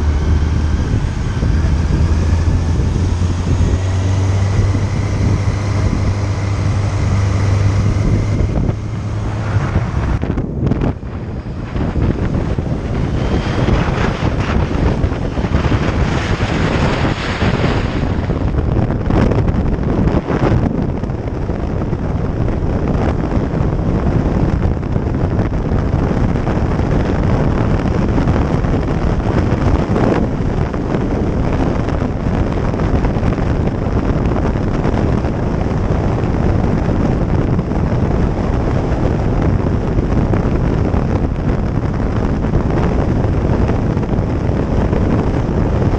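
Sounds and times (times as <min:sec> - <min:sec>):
motorcycle engine: 0:00.0 - 0:45.9
road noise: 0:00.0 - 0:45.9
wind buffeting microphone: 0:00.0 - 0:45.9.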